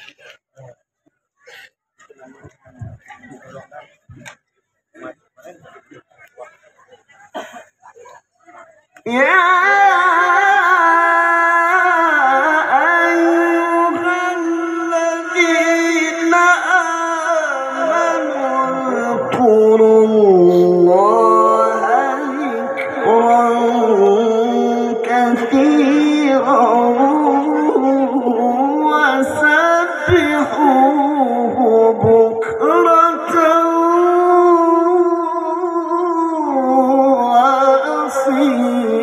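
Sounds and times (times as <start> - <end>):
man reciting melodically over speaker: 0.0 - 7.5, 8.4 - 39.0.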